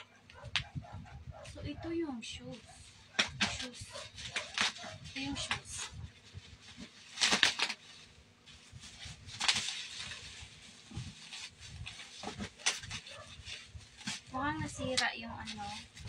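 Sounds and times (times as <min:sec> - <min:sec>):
bubble wrap rustling: 0:01.4 - 0:16.0.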